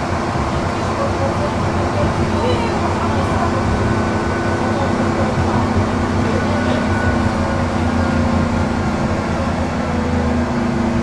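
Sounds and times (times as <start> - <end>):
tram motors humming: 0.0 - 11.0
tram wheels rumbling on rails: 0.0 - 11.0.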